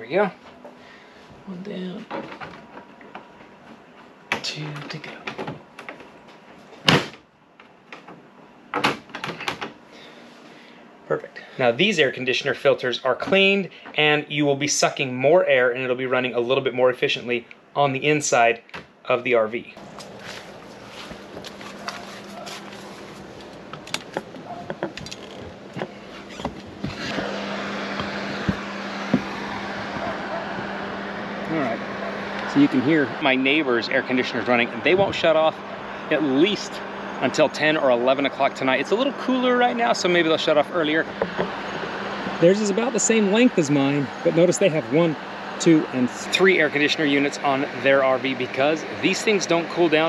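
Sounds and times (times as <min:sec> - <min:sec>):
air conditioner hum: 0:00.0 - 0:50.0.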